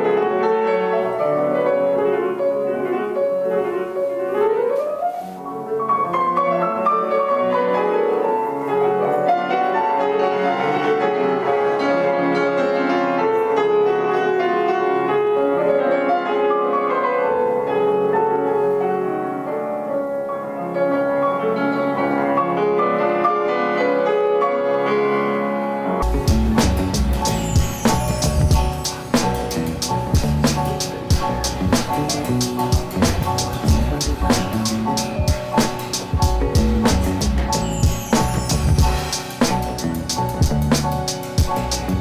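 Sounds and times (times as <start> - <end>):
solo piano classical music: 0.0 - 42.0.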